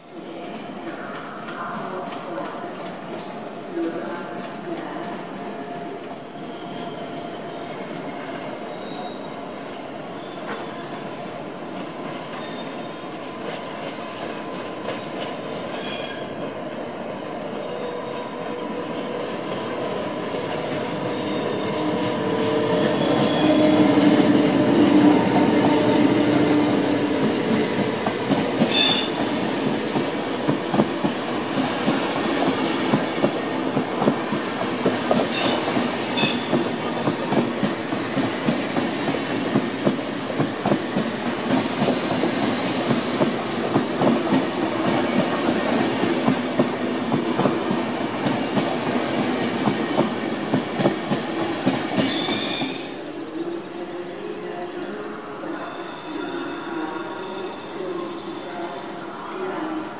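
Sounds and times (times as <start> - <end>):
train running past: 0.0 - 59.9.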